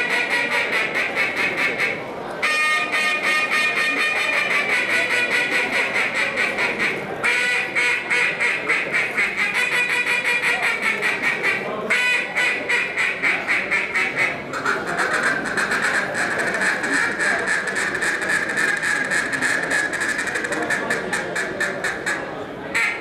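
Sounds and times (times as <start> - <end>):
duck call quacking: 0.0 - 23.0.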